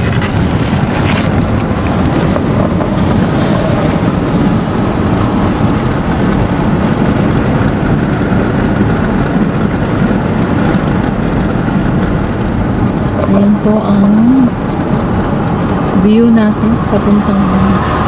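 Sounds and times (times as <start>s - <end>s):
road and wind noise in car: 0.0s - 18.0s.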